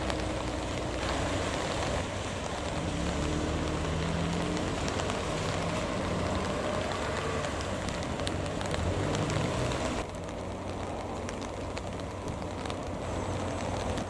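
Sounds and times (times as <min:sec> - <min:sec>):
low engine hum: 0:00.0 - 0:14.0
steady rain falling: 0:00.0 - 0:14.0.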